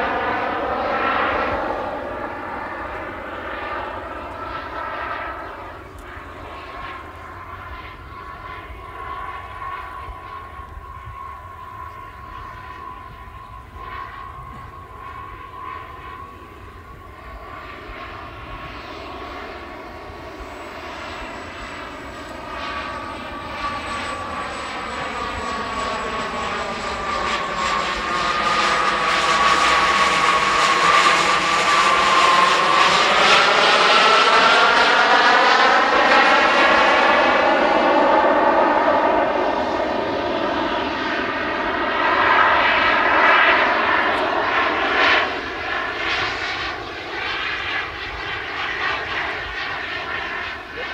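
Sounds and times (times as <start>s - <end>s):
model jet turbine whine: 0.0s - 50.9s.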